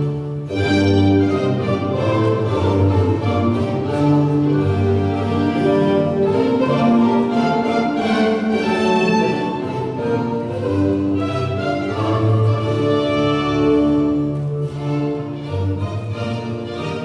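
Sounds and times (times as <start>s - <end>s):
violins playing melody: 0.0s - 17.0s.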